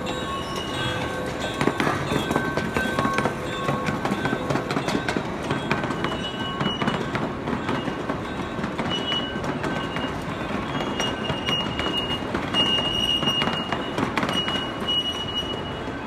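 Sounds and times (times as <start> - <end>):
miniature train rumbling: 0.0 - 16.0
wheels clicking over rail joints: 0.0 - 16.0.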